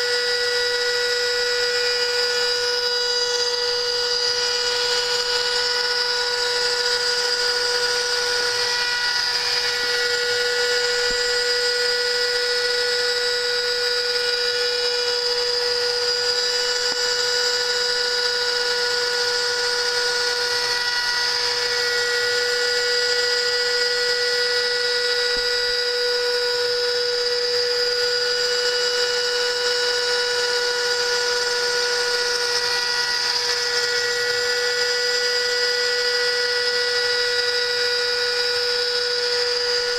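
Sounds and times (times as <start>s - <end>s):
milling spindle whining: 0.0s - 39.9s.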